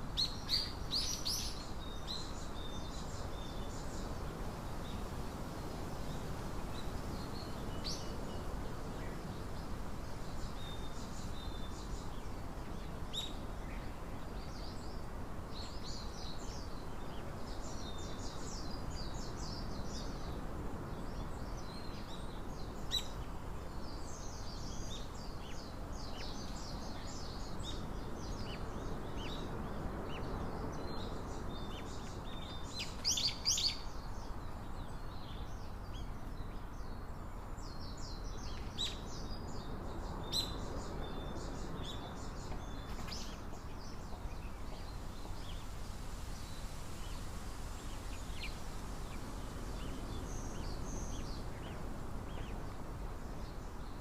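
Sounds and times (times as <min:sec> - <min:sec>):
small birds chirping: 0:00.0 - 0:05.2, 0:06.0 - 0:54.0
low background hiss: 0:00.0 - 0:54.0.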